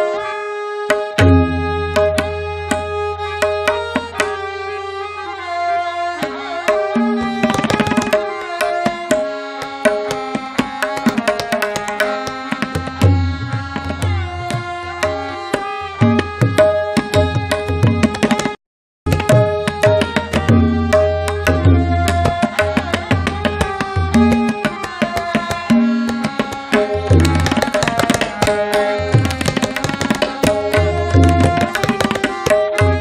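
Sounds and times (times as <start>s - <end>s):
harmonium melody: 0.0s - 33.0s
tabla drumming: 0.9s - 4.5s, 6.2s - 33.0s.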